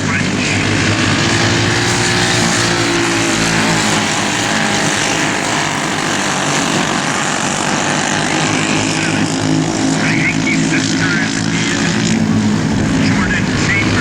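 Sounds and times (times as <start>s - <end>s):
kart engines droning: 0.0s - 14.0s.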